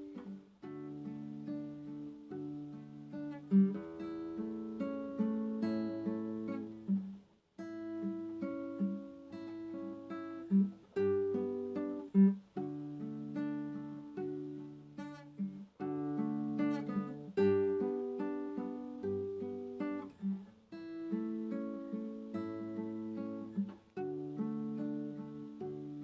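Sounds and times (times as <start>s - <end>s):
acoustic guitar plucked piece: 0.0s - 26.0s.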